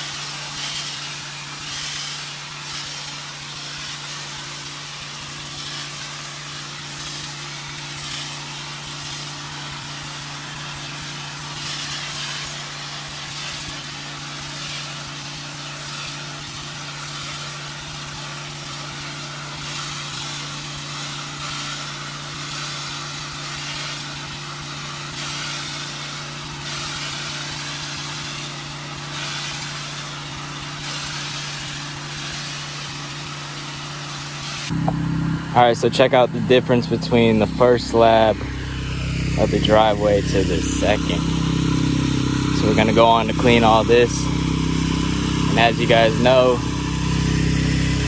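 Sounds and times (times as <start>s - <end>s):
water spray hissing on concrete: 0.0s - 34.9s, 35.5s - 48.0s
pressure washer engine running: 0.0s - 48.0s.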